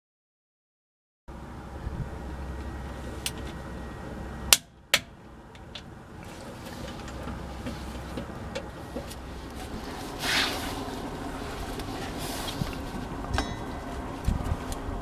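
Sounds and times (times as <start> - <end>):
low hum: 1.3 - 15.0.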